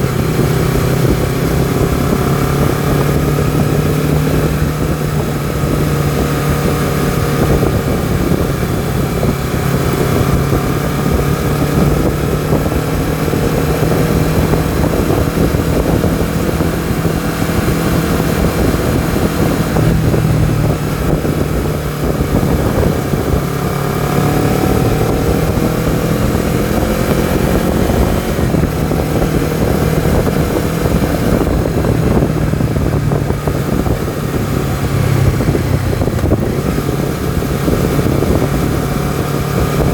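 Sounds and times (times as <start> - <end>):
motorcycle engine and exhaust: 0.0 - 39.9
wind noise: 0.0 - 39.9.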